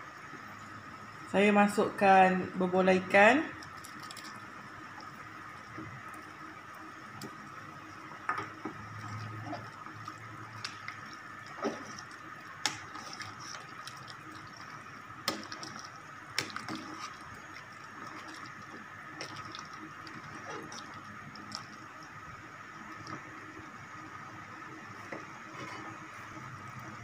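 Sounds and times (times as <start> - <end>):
liquid sloshing in pot: 3.5 - 23.7, 24.6 - 26.9.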